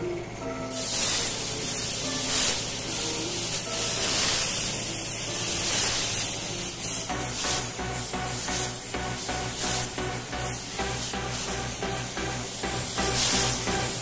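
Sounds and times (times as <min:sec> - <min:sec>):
background music: 0:00.0 - 0:14.0
spray gun hissing: 0:00.6 - 0:14.0.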